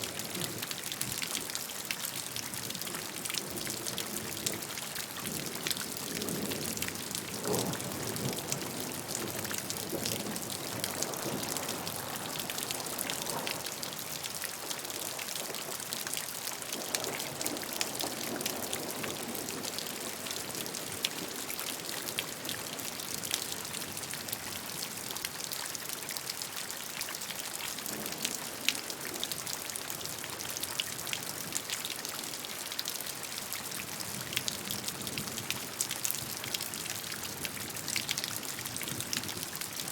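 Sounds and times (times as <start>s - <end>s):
raindrops ticking on surface: 0.0s - 39.9s.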